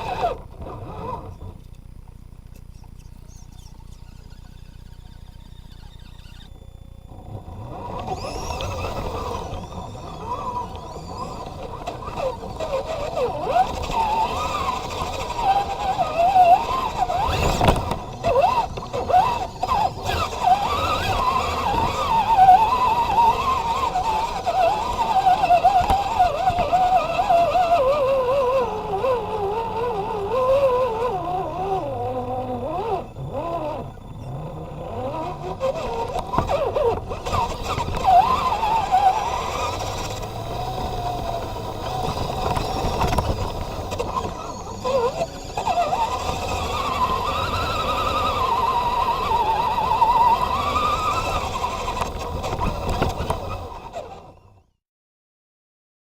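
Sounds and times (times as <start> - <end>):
rc truck motor whining: 0.0 - 54.8.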